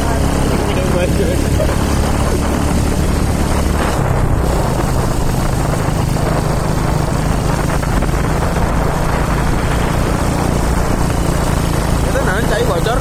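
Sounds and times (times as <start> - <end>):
motorcycle engine humming: 0.0 - 13.0
wind rushing on microphone: 0.0 - 13.0.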